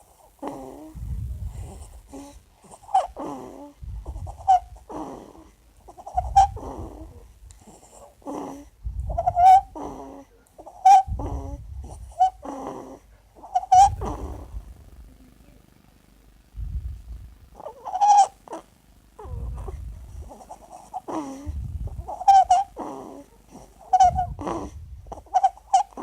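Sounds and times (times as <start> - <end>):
snore-like breathing rattle: 0.4 - 10.3, 11.0 - 15.0, 18.6 - 26.0.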